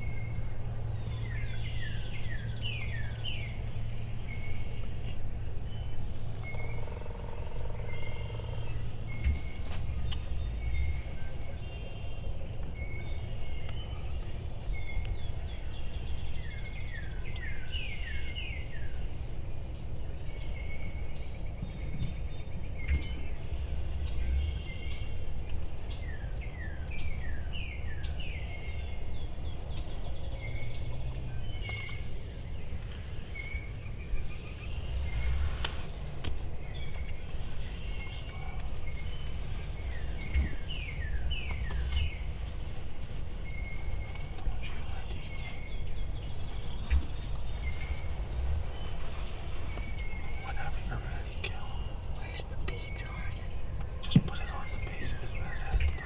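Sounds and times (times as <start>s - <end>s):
low wind rumble: 0.0s - 56.0s
songbirds singing: 0.0s - 56.0s.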